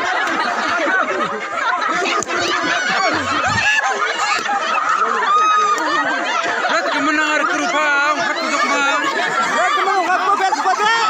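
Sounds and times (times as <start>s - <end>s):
crowd laughing and shouting: 0.0s - 11.0s.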